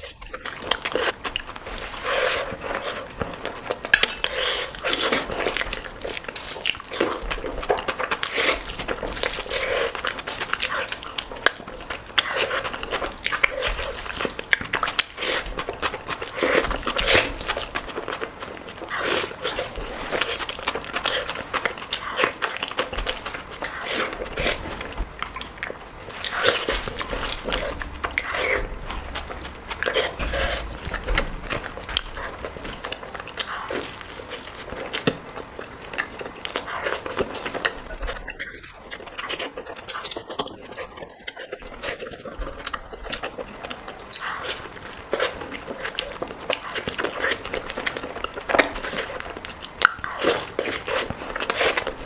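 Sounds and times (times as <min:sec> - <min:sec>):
food crunching: 0:00.0 - 0:52.0
person chewing food: 0:00.0 - 0:52.0.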